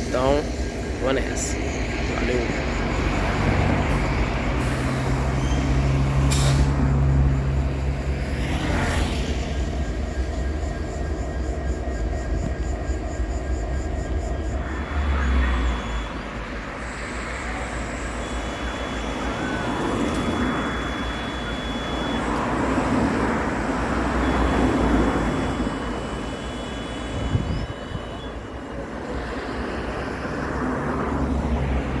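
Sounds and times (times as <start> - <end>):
diesel locomotive idling: 0.0 - 32.0.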